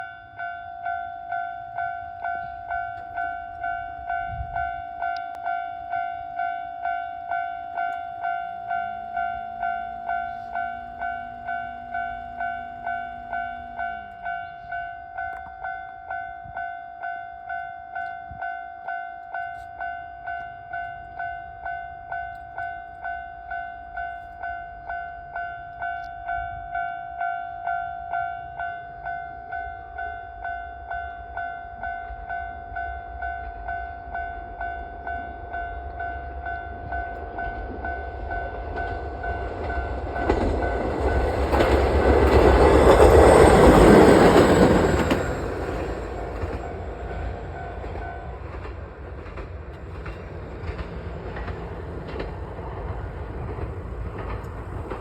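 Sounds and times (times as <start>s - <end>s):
level crossing warning bell: 0.0s - 48.6s.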